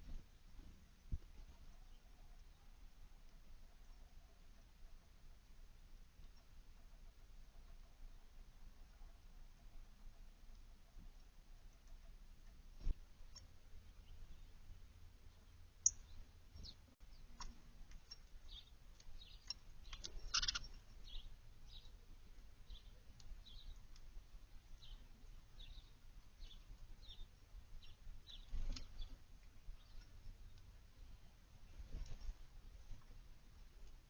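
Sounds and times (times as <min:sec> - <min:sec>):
faint songbird chirps: 0:06.2 - 0:34.0.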